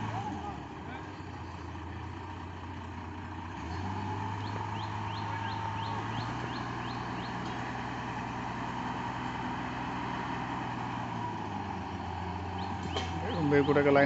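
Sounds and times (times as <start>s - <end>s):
diesel excavator engine revving: 0.0s - 14.0s.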